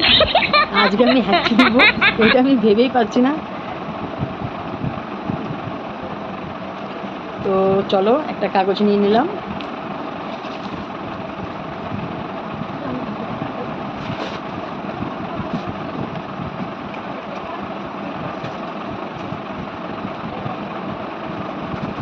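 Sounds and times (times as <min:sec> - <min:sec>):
mechanical drone with hum: 0:00.0 - 0:22.0.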